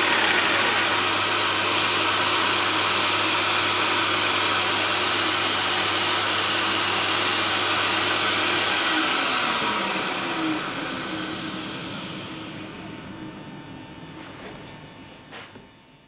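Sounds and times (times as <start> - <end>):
dust extractor vacuum winding down: 0.0 - 14.6.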